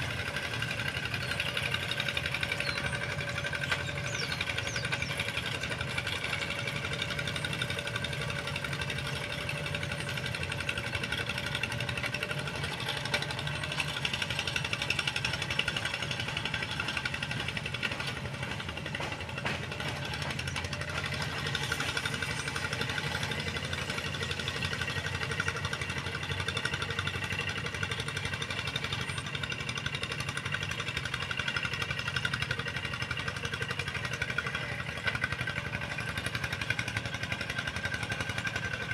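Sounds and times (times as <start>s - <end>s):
tractor engine knocking: 0.0s - 38.9s.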